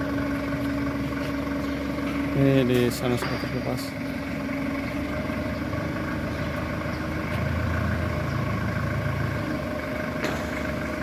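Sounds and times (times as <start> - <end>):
bulldozer diesel engine rumbling: 0.0 - 11.0.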